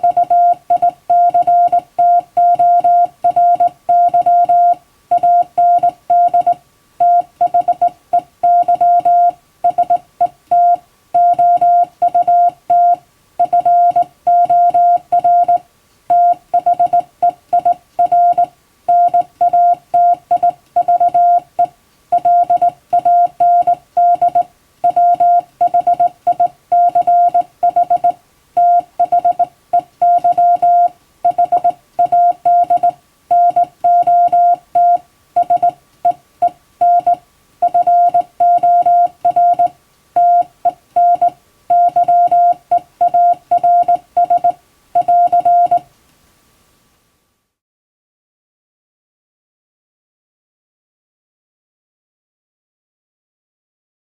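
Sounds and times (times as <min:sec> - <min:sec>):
morse code beeps: 0:00.0 - 0:45.9.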